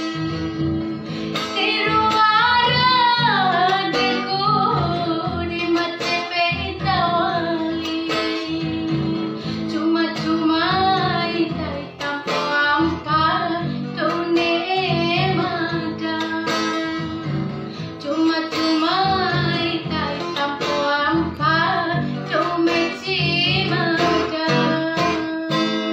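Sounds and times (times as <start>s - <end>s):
strummed acoustic guitar: 0.0s - 25.9s
woman singing: 0.0s - 25.9s.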